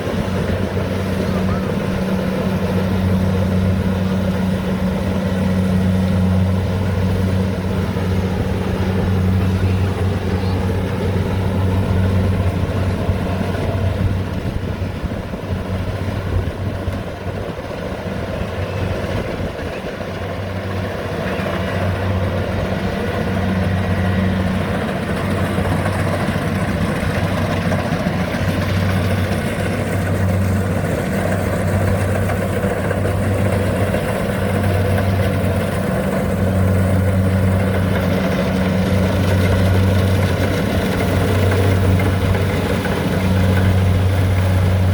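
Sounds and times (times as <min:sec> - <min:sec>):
harvester engine humming: 0:00.0 - 0:44.9.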